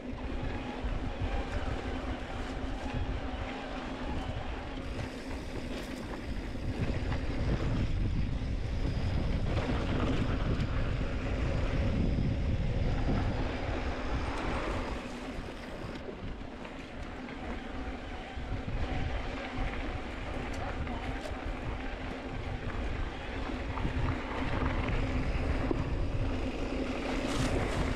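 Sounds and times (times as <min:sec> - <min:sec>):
bike rattling: 0:00.0 - 0:27.9
wind rushing over microphone: 0:00.0 - 0:27.9.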